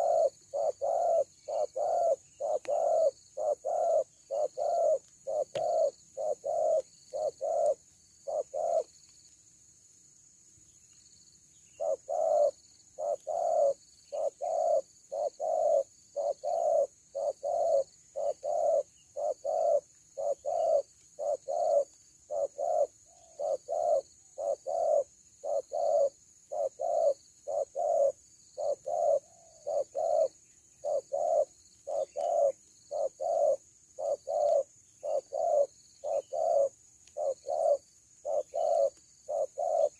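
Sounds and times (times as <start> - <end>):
dove cooing: 0.0 - 9.0, 11.8 - 39.9
high insect drone: 0.0 - 39.9.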